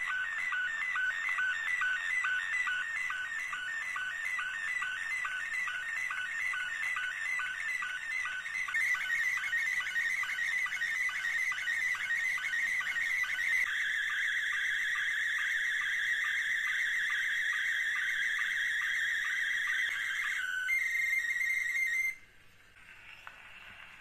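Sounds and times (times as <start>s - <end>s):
warbling electronic tones with chirps: 0.0s - 22.2s.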